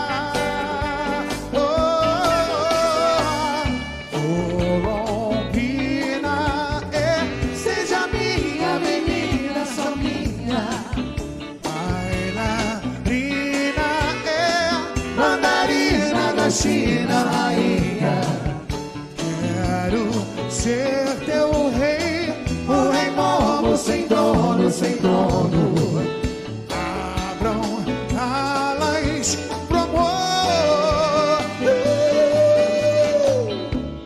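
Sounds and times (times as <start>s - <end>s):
people singing: 0.0s - 33.8s
big band playing live: 0.0s - 34.0s.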